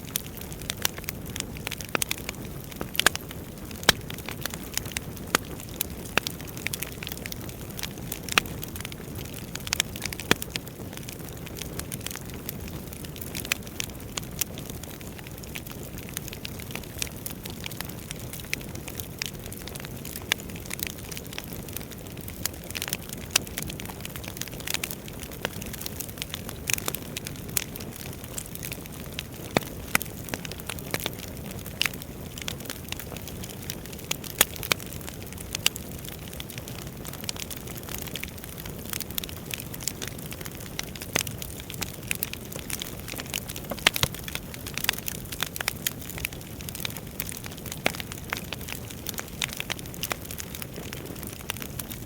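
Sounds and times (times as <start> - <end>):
burning logs crackling: 0.0 - 52.0
low rumble of flames: 0.0 - 52.0.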